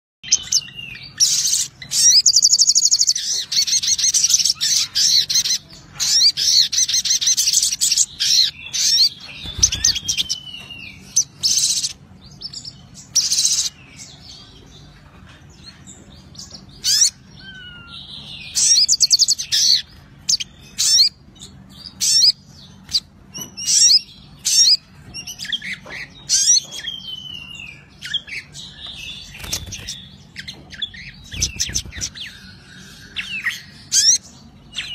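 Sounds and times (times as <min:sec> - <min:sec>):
bird trilling and chattering: 0:00.2 - 0:34.9.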